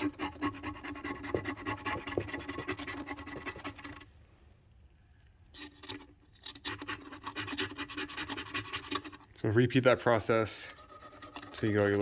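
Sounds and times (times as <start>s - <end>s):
hand tool scraping carbon: 0.0s - 4.1s, 5.5s - 12.0s.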